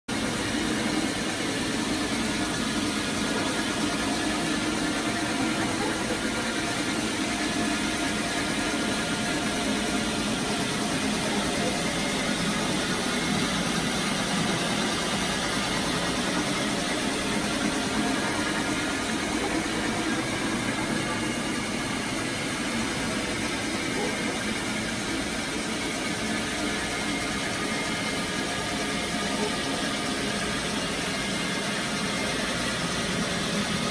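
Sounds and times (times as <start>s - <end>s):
motor drone: 0.2s - 33.9s.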